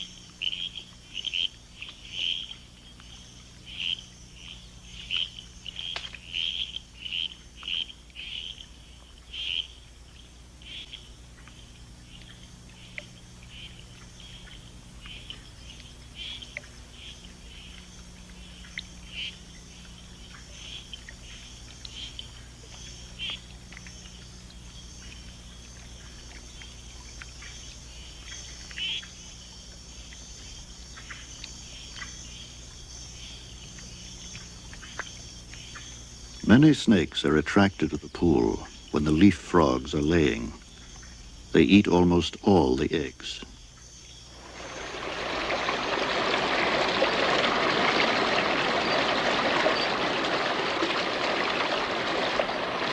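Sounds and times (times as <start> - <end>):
frogs chirping: 0.0 - 52.9
high insect drone: 0.0 - 52.9.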